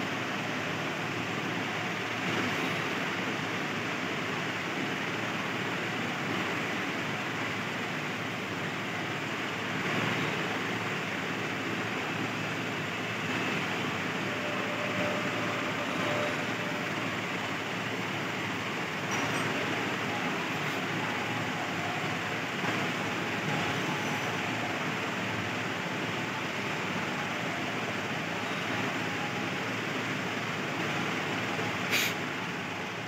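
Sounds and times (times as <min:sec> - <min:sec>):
steady background noise: 0:00.0 - 0:33.0.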